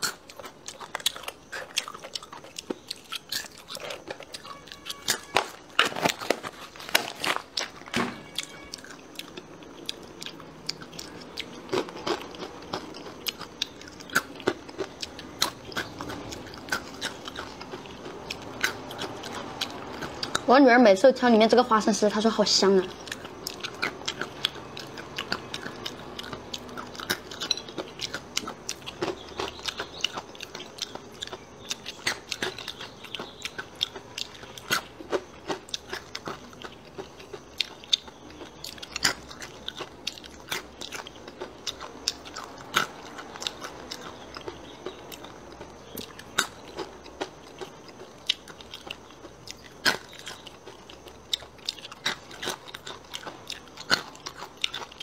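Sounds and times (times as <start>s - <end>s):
crunching and chewing crispy snack: 0.0s - 20.5s, 21.9s - 55.0s.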